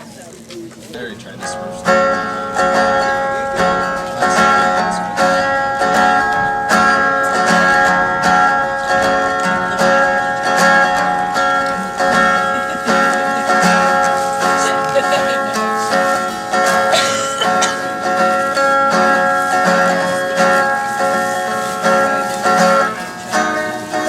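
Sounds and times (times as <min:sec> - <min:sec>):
acoustic guitar picking: 0:00.0 - 0:24.0.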